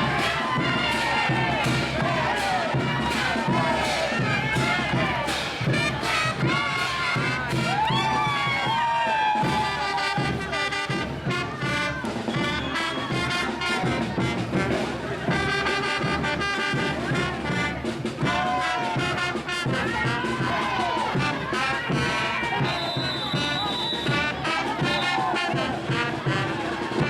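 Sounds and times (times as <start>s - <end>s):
brass band playing parade music: 0.0s - 27.0s
crowd voices: 0.0s - 27.0s.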